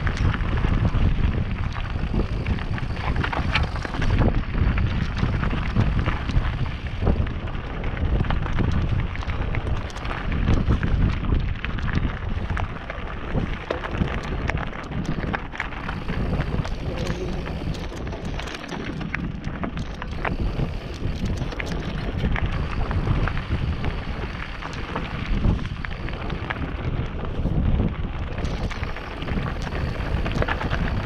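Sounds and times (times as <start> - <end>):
bike clicks and rattles: 0.0 - 31.0
bike tyres crunching over stones: 0.0 - 31.0
wind rumbling on microphone: 0.0 - 31.0.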